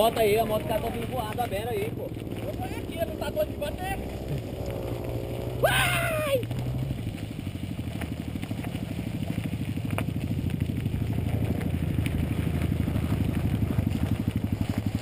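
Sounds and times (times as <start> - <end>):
dirt bike engines puttering: 0.0 - 15.0.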